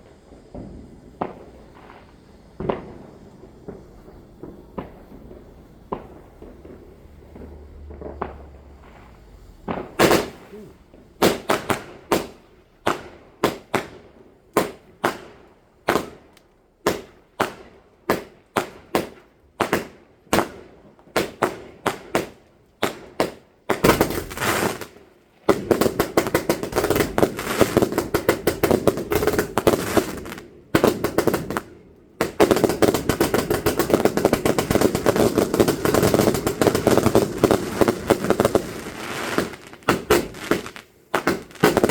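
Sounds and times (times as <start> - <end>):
fireworks bangs: 0.0 - 41.9
fireworks rapid crackling: 0.0 - 41.9.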